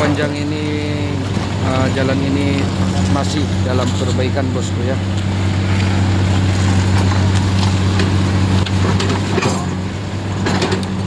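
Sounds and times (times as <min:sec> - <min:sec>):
heavy road traffic: 0:00.0 - 0:11.0
vehicle engine humming: 0:00.0 - 0:11.0.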